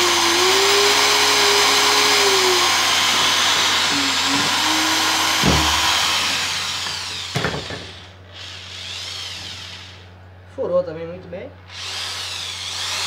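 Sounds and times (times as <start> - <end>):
drill boring through wood: 0.0 - 10.1, 11.7 - 13.0.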